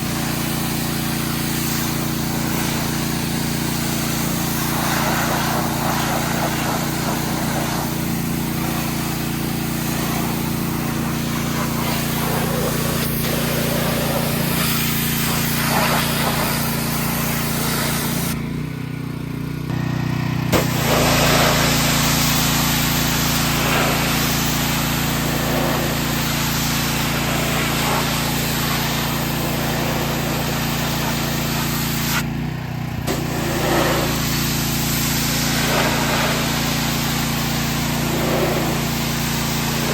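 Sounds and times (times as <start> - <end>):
water spray hissing: 0.0 - 18.4, 20.5 - 32.4, 33.0 - 39.9
small engine running: 0.0 - 39.9.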